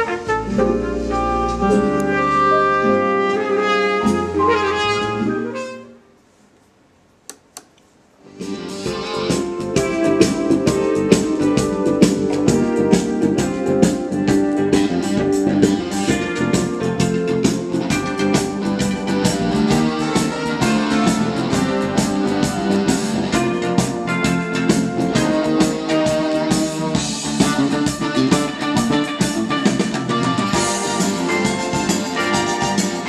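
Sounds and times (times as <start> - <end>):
band music from a record: 0.0 - 6.0, 8.2 - 33.0.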